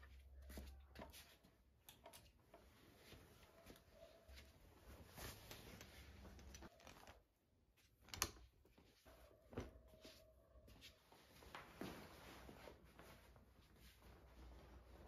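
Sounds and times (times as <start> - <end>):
clothes rustling on hangers: 0.0 - 15.0.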